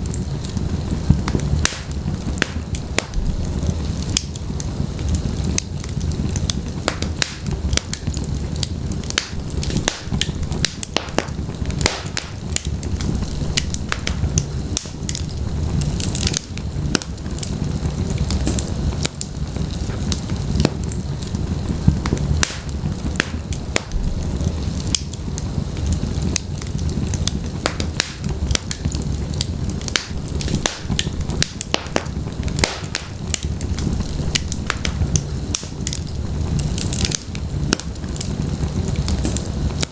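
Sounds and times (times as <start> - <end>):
fire rumbling in fireplace: 0.0 - 39.9
logs crackling and popping: 0.0 - 39.9.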